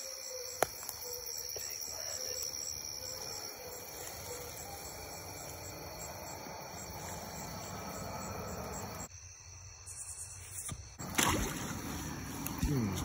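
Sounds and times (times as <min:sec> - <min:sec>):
crickets and insects trilling: 0:00.0 - 0:13.0.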